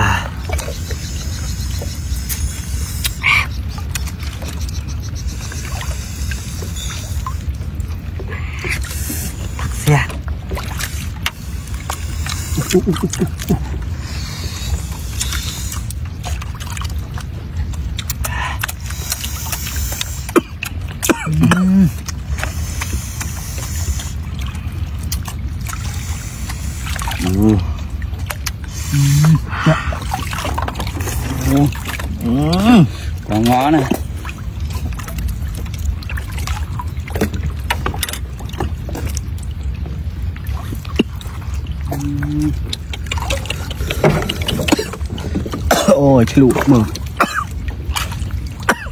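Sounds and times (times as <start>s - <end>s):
low steady rumble: 0.0s - 48.9s
water sloshing and trickling: 0.0s - 48.9s.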